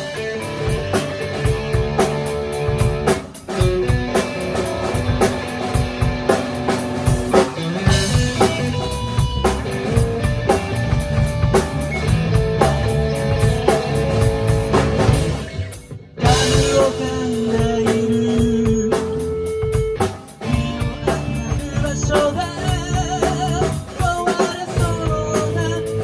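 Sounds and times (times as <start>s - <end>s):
rock band instrumental: 0.0s - 26.0s.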